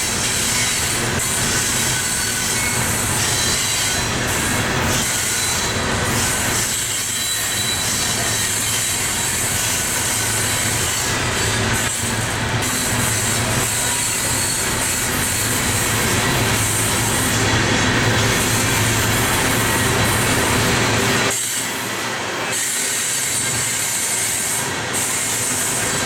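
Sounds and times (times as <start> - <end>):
high wheel squeal: 0.0 - 26.0
train cars rumbling on rails: 0.0 - 26.0.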